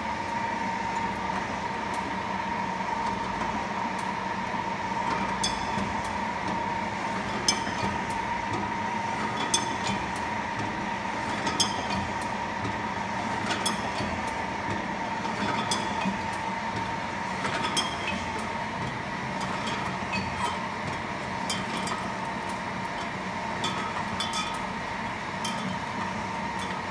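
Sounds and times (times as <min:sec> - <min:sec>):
bottling machine humming and whining: 0:00.0 - 0:26.9.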